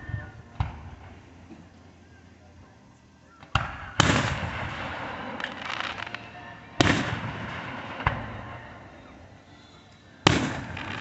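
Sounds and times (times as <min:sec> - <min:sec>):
fireworks bangs echoing: 0:00.0 - 0:01.7, 0:03.4 - 0:11.0
fireworks crackling: 0:00.0 - 0:11.0.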